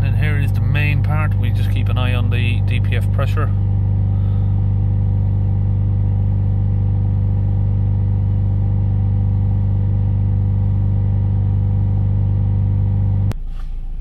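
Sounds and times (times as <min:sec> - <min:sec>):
diesel engine droning at raised revs: 0:00.0 - 0:14.0.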